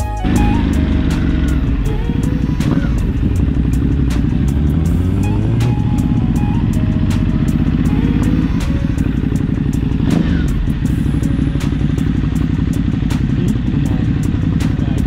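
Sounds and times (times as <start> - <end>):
motorcycle engine at low revs: 0.2 - 15.0.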